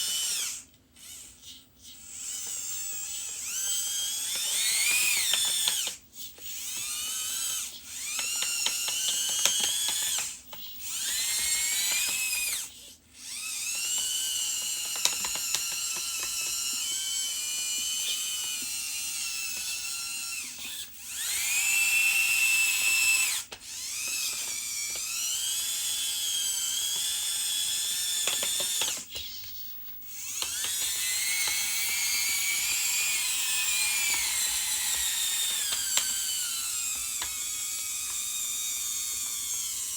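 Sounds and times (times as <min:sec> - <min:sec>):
small electric motors whining: 0:00.0 - 0:39.9
gears ratcheting clicks: 0:02.1 - 0:29.4, 0:30.2 - 0:39.9.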